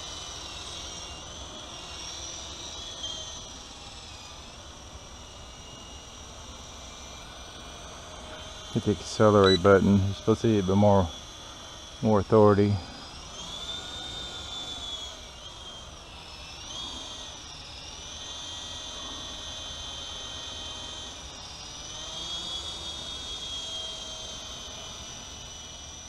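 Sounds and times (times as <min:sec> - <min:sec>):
rc helicopter motors whining: 0:00.0 - 0:26.0.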